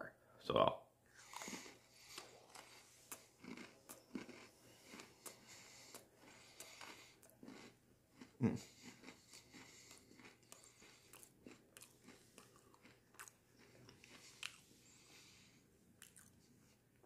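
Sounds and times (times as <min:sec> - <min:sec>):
person chewing crunchy cookie: 0:01.1 - 0:17.0.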